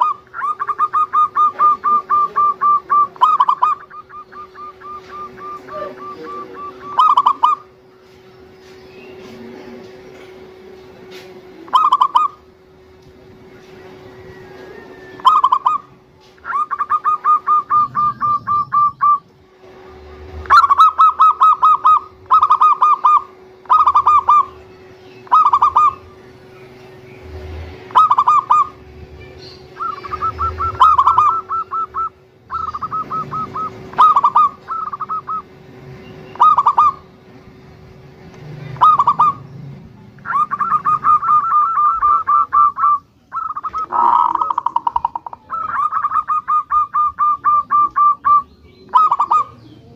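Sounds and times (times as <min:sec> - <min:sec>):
dove cooing: 0:00.0 - 0:37.2, 0:38.5 - 0:49.9.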